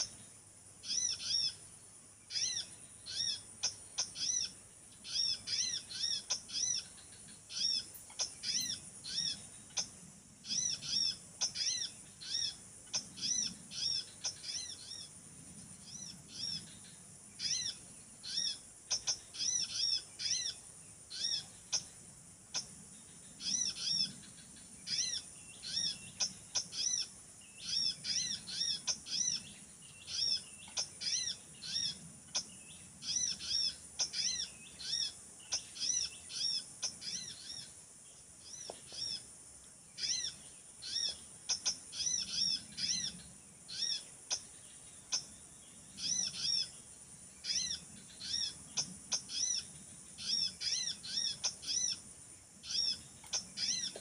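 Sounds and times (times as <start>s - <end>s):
small birds chirping: 0.0s - 54.0s
steady high-pitched hiss: 0.0s - 54.0s.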